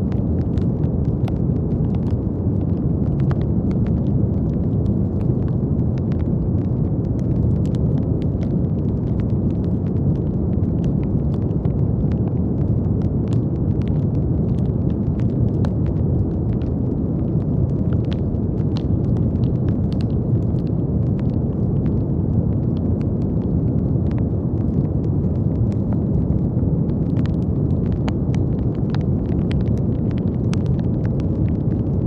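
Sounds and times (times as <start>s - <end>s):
brown noise rumbling hiss: 0.0s - 32.0s.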